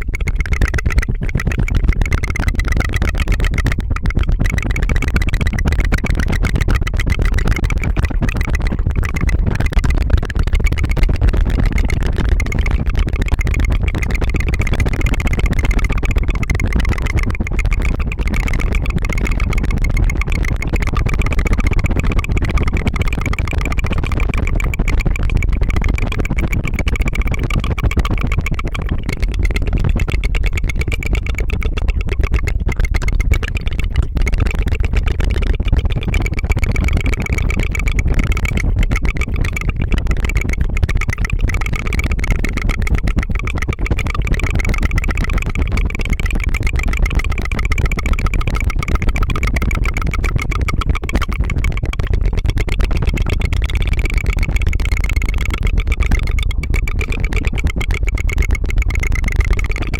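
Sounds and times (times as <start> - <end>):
tongue fluttering trill: 0.0 - 59.9.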